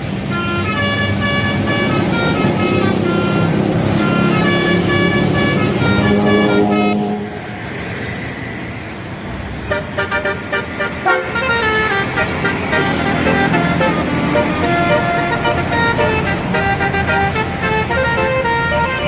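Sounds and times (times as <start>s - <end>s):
musical bus horn tooting: 0.0s - 7.6s, 9.6s - 19.0s
road and engine noise: 0.0s - 19.0s.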